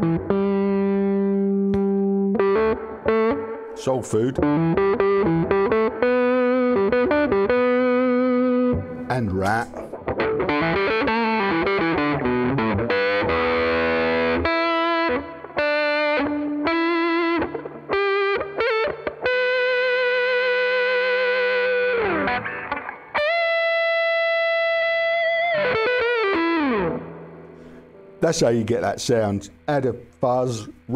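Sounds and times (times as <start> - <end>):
distorted electric guitar lead: 0.0 - 30.9.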